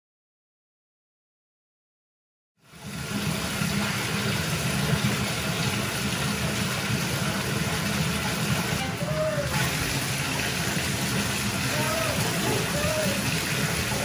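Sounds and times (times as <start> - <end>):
water running into bathtub: 2.6 - 14.0.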